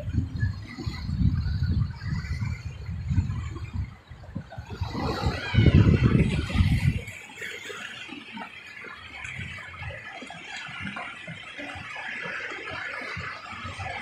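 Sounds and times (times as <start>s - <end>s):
small waves washing over rocks: 0.0s - 14.0s.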